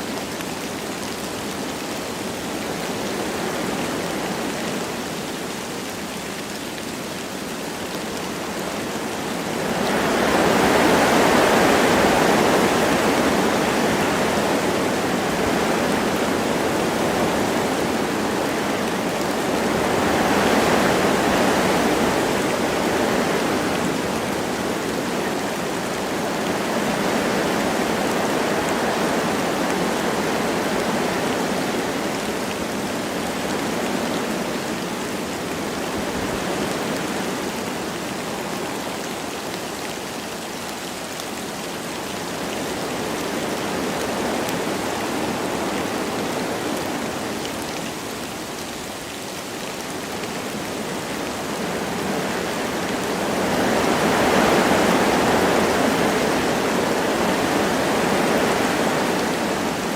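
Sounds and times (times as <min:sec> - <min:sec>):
light rain falling: 0:00.0 - 0:59.9
wind through trees: 0:00.0 - 0:59.9.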